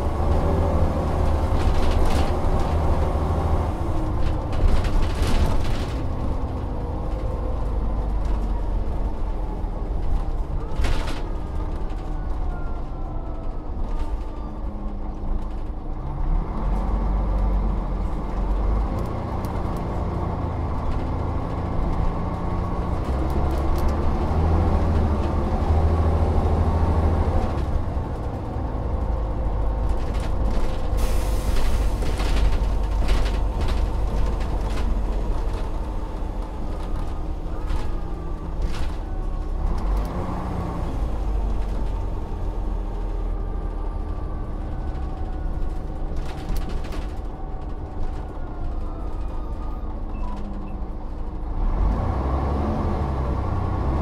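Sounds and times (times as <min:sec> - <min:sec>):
bus body creaks and rattles: 0:00.0 - 0:54.0
bus diesel engine running: 0:00.0 - 0:54.0.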